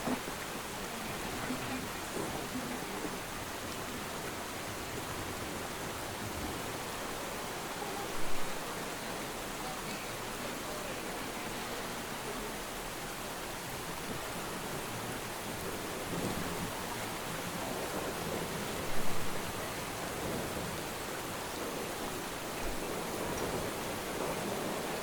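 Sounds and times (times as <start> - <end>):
steady rain hissing: 0.0 - 25.0.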